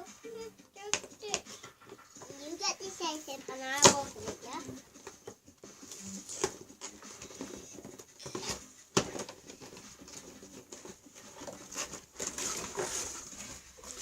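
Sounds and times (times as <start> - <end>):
packaging rustling and tapping: 0.8 - 2.6, 3.6 - 14.0.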